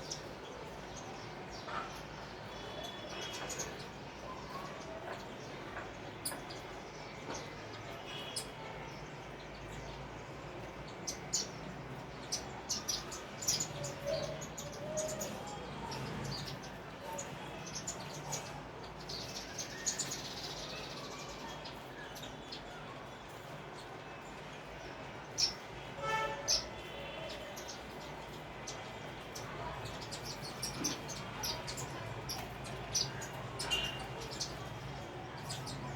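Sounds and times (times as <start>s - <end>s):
sparrows chirping: 0.0s - 35.9s.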